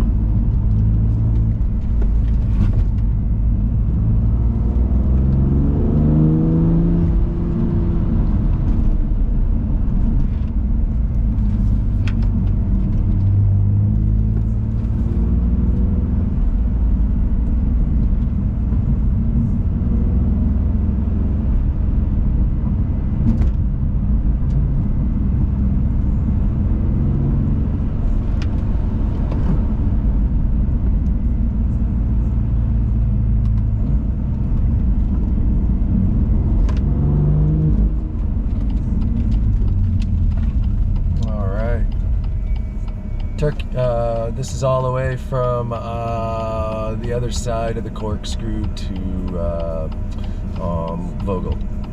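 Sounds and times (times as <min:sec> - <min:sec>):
car engine driving hard: 0:00.0 - 0:51.9
road noise rumble: 0:00.0 - 0:51.9.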